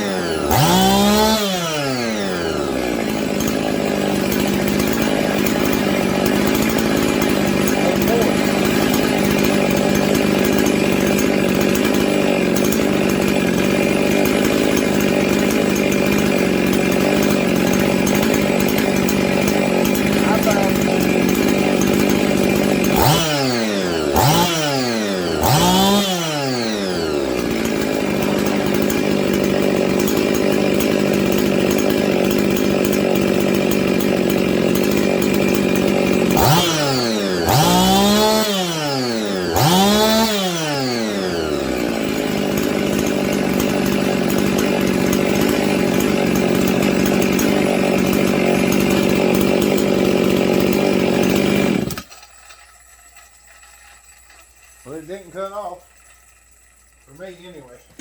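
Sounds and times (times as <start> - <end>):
chainsaw idling and revving: 0.0 - 52.1, 54.7 - 58.0.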